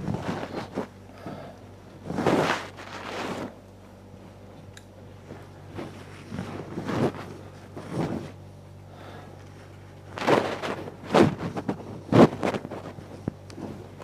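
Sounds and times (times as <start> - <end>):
bedding rustling: 0.0 - 4.5, 5.1 - 14.0
steady low hum: 0.0 - 14.0.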